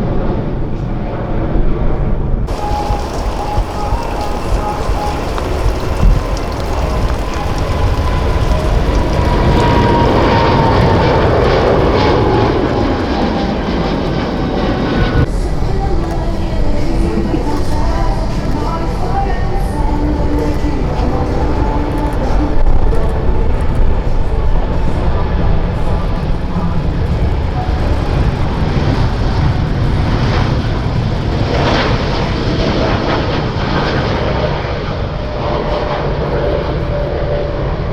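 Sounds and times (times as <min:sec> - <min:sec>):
airliner engines roaring: 0:00.0 - 0:37.9.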